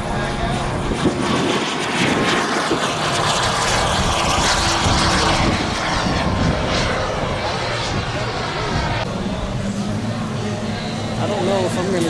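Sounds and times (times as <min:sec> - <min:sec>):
model airplane engine and propeller: 0:00.0 - 0:12.0.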